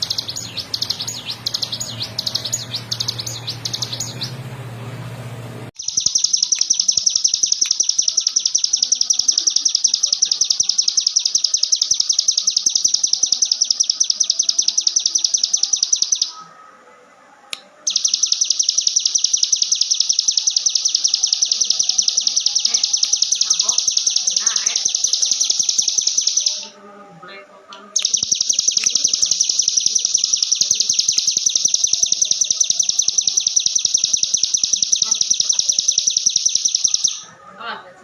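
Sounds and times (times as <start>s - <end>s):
bird singing rattling trills: 0.0s - 4.4s, 5.8s - 16.4s, 17.9s - 26.7s, 28.0s - 37.4s.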